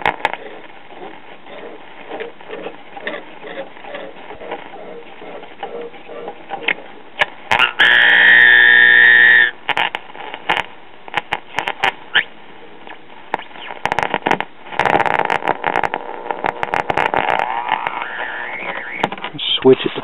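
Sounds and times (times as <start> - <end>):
buzzy radio tone: 0.0 - 20.0
radio static crackles and pops: 0.0 - 20.0.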